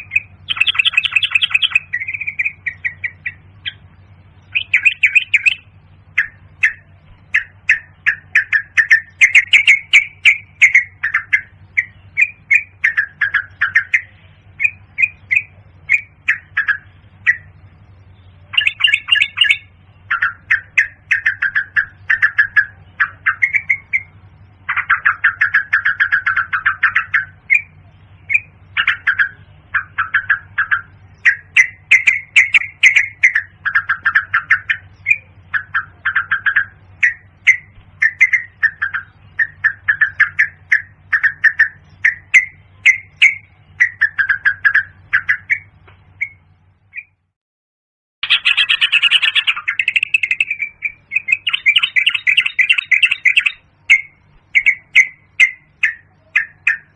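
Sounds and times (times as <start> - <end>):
bird chattering calls: 0.0 - 47.2, 48.2 - 56.9
steady low hum: 0.0 - 47.3, 48.2 - 56.9.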